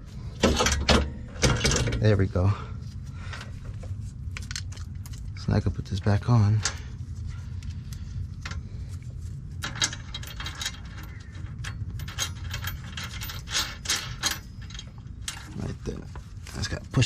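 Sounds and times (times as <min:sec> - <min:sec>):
steady low hum: 0:00.0 - 0:17.0
metal parts clinking and scraping: 0:00.3 - 0:02.3, 0:04.2 - 0:17.0.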